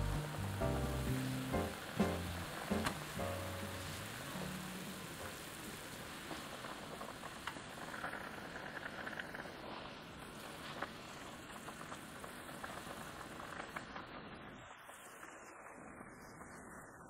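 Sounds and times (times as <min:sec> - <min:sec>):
broth boiling in a pot: 0:00.0 - 0:17.0.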